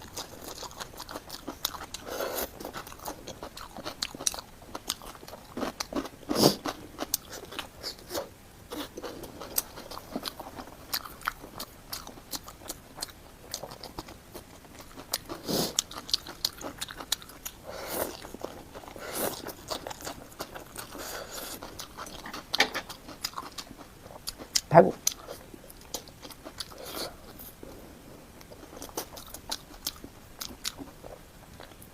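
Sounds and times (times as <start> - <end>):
person chewing crunchy food: 0.0 - 31.9.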